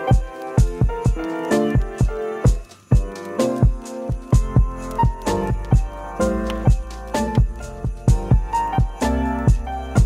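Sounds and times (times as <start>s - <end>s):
pitched melody: 0.0s - 10.0s
kick drum beat: 0.1s - 10.0s.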